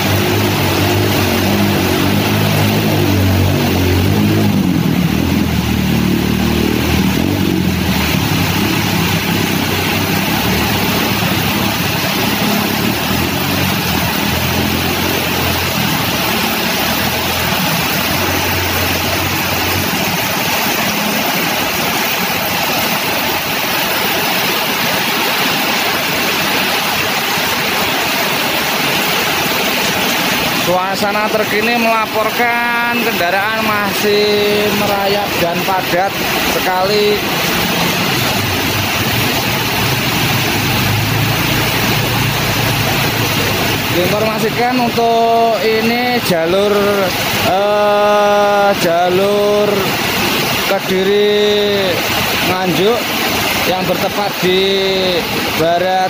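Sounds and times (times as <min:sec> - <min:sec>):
heavy rain hiss: 0:00.0 - 0:56.0
low engine drone: 0:00.0 - 0:56.0
vehicles wading through water: 0:00.0 - 0:56.0.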